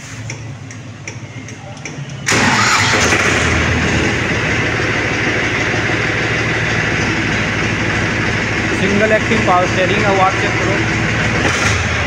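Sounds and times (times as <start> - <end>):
diesel tractor engine starting: 0.0 - 12.0.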